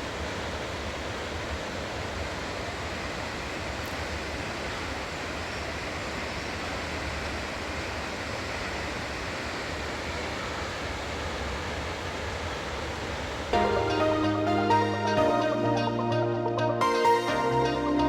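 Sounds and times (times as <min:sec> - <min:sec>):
distant waterfall roar: 0:00.0 - 0:18.0.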